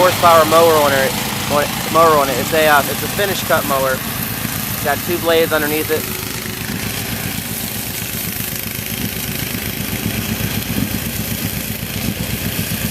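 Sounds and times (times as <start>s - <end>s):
four-wheeler engine throbbing: 0.0s - 12.9s.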